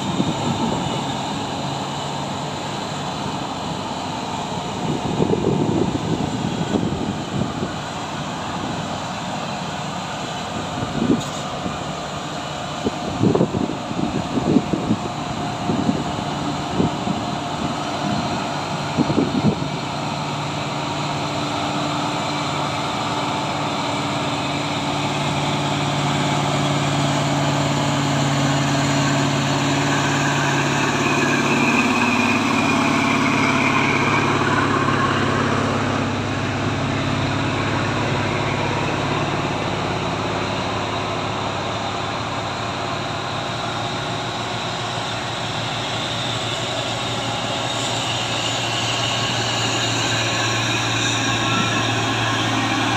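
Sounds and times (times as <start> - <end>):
diesel truck engines running: 0.0 - 52.9
truck passing: 0.0 - 52.9.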